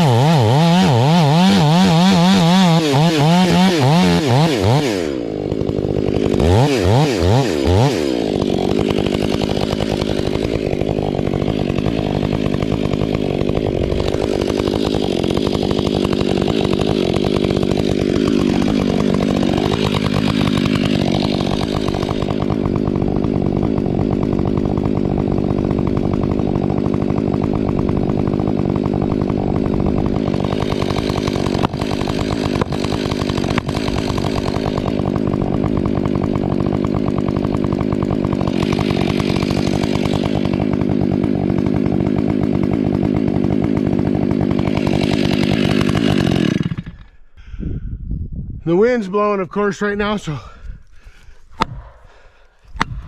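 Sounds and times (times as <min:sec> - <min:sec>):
chainsaw cutting into wood: 0:00.0 - 0:47.6, 0:49.9 - 0:53.0.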